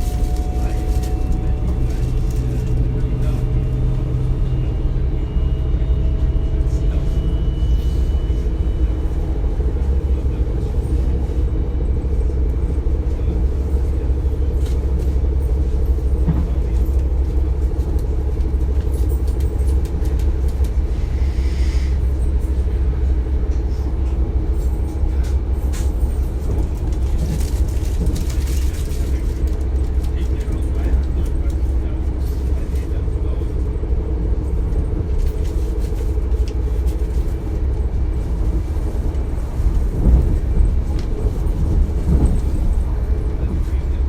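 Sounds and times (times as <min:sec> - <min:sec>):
running gear drone: 0:00.0 - 0:44.0
train wheels rumbling on rail: 0:00.0 - 0:44.0.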